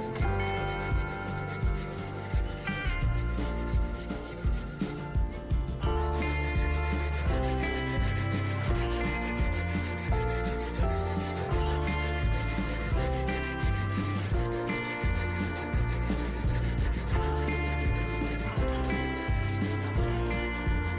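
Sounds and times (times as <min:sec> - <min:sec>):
abrasive rubbing on steel: 0:00.0 - 0:05.0, 0:06.0 - 0:20.9
background music with beat: 0:00.0 - 0:20.9.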